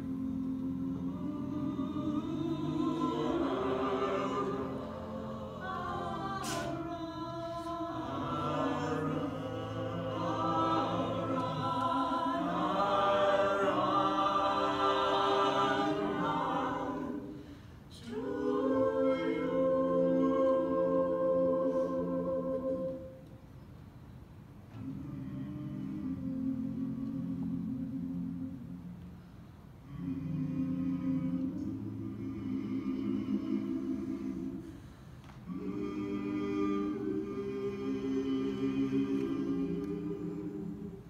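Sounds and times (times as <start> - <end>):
a cappella group singing in harmony: 0.0 - 23.5, 24.7 - 41.0.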